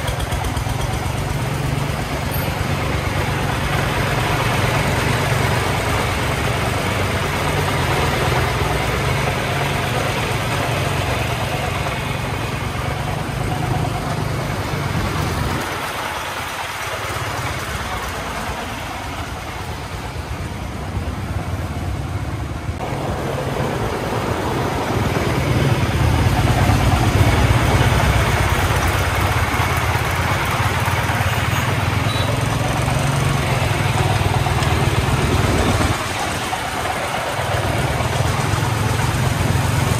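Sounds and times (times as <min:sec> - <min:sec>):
diesel engine running: 0:00.0 - 0:39.9
tyre and road noise: 0:00.0 - 0:39.9.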